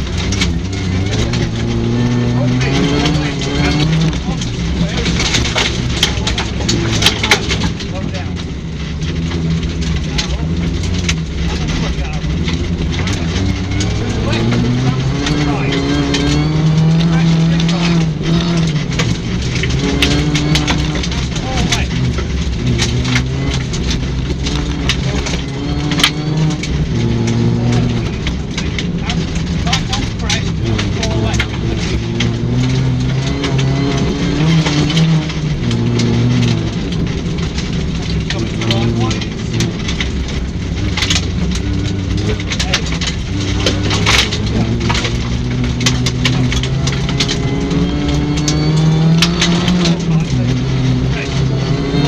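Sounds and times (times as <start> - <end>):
gravel clattering on car: 0.0 - 52.0
rally car engine under load: 0.0 - 52.0.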